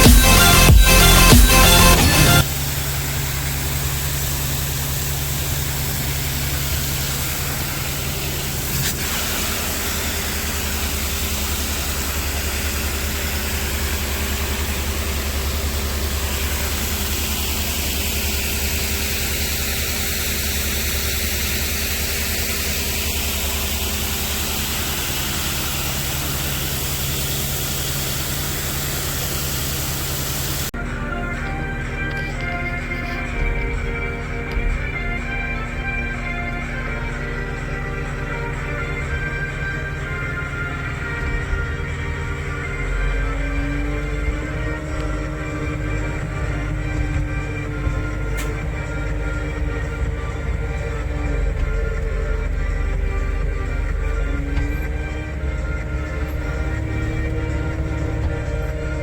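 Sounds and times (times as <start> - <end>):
machinery engine humming: 0.0 - 59.0.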